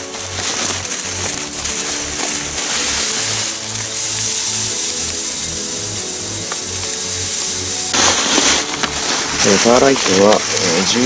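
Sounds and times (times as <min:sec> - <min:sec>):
granules poured into metal pail: 0:00.0 - 0:11.0.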